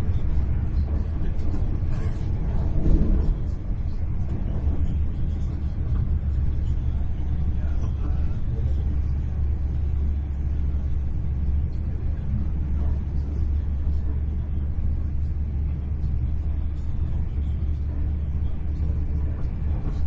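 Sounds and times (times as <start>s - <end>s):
train rumbling in motion: 0.0s - 20.0s.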